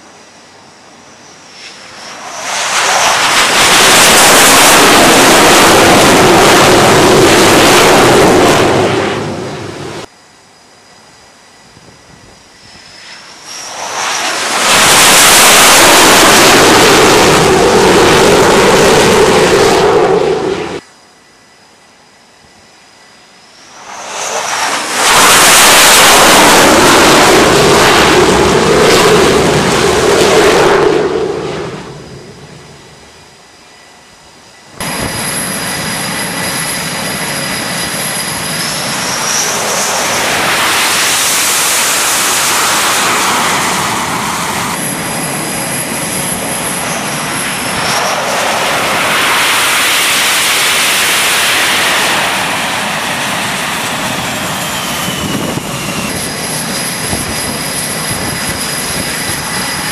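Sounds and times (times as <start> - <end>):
jet engine roar: 0.0 - 20.9, 22.4 - 59.9
rising turbine whine: 0.0 - 59.9
steady jet engine whine: 0.0 - 59.9.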